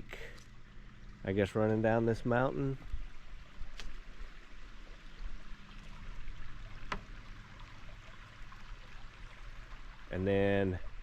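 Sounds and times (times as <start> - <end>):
creek running over rocks: 0.0 - 11.0.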